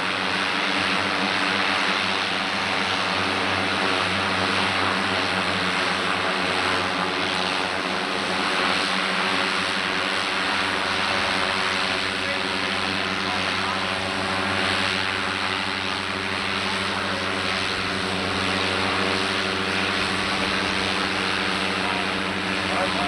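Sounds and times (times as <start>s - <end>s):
turboprop propeller drone: 0.0s - 23.0s.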